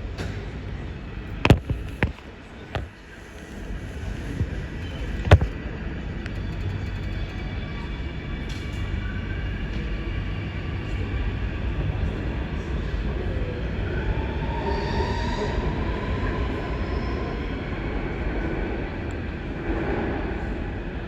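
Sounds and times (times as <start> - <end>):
metro train wheels rumbling on rails: 0.0 - 21.0.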